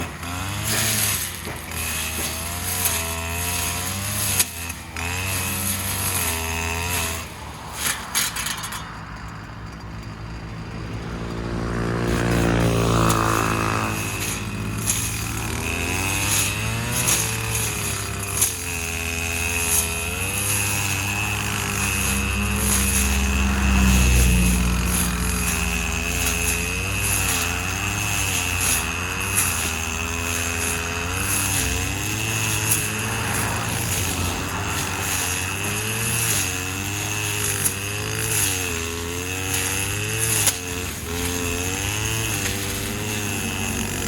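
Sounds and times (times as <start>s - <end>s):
brush cutter engine revving: 0.0s - 10.1s, 10.8s - 44.0s.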